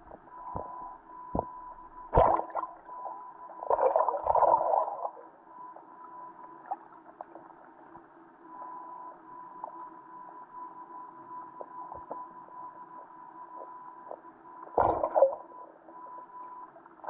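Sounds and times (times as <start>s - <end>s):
muffled underwater sound: 0.0s - 17.0s
thin steady tone: 0.0s - 17.0s.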